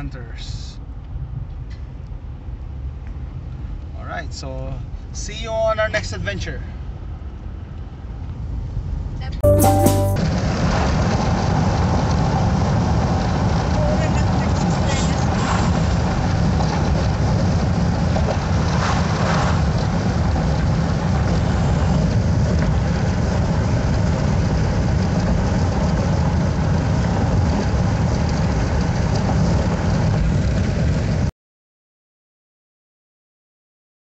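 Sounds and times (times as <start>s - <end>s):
car tyres and engine rumble: 0.8s - 9.2s, 10.4s - 31.3s.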